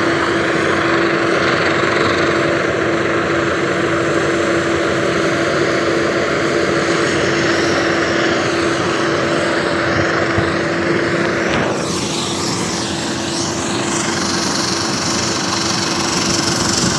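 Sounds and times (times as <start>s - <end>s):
heavy machinery droning: 0.0s - 16.9s.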